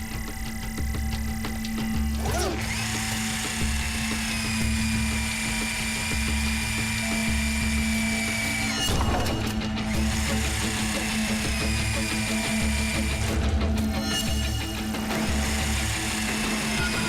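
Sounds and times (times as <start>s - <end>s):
background music with low beat: 0.0s - 17.0s
high-pitched whine: 0.0s - 17.0s.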